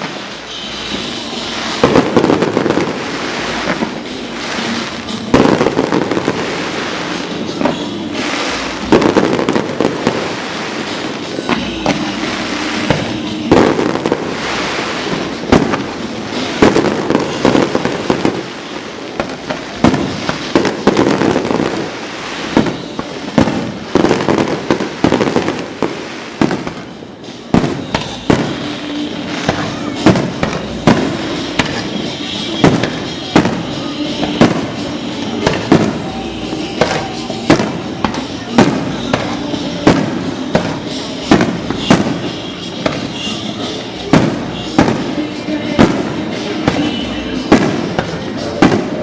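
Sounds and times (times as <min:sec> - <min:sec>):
fireworks bangs: 0:00.0 - 0:49.0
fireworks crackling: 0:00.0 - 0:49.0.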